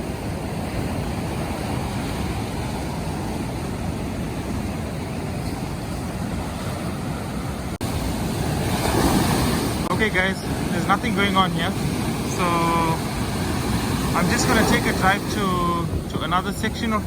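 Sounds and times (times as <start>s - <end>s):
surf washing onto beach: 0.0s - 17.0s
wind rumbling on microphone: 0.0s - 17.0s.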